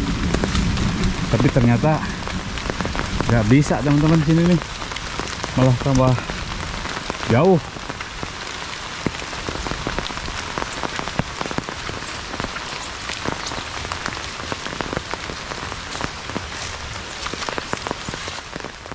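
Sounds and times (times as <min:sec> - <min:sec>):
drips hitting leaves or umbrella: 0:00.0 - 0:18.9
heavy rain falling: 0:00.0 - 0:18.9.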